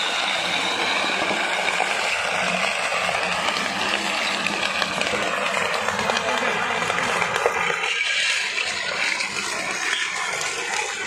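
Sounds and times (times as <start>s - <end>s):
road roller engine hum: 0.0s - 11.0s.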